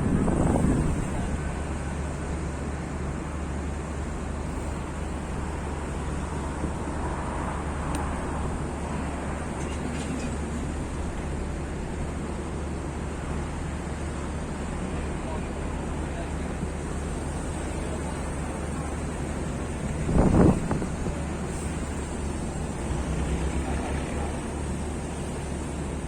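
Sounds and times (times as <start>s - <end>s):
diesel locomotive engine droning: 0.0s - 26.0s.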